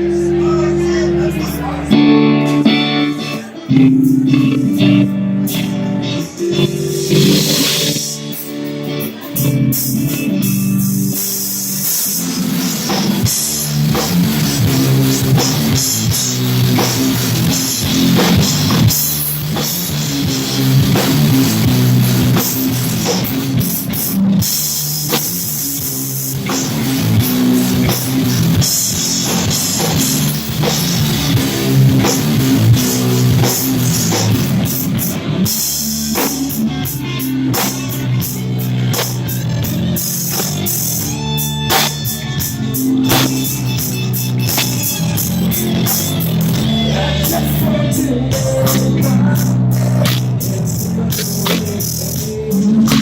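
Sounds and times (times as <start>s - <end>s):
rock band playing: 0.0s - 53.0s.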